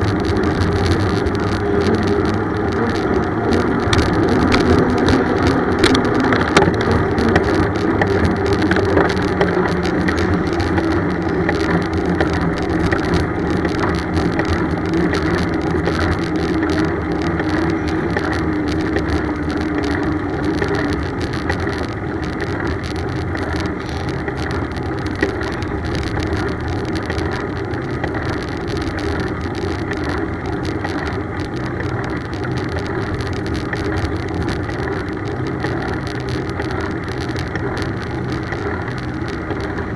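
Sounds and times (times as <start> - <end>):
bicycle road noise rumble: 0.0 - 39.9
faint hum: 0.0 - 39.9.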